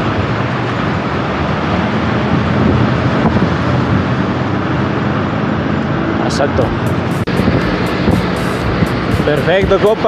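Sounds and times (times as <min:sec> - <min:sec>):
road traffic noise: 0:00.0 - 0:10.0
wind rush on microphone: 0:00.0 - 0:10.0.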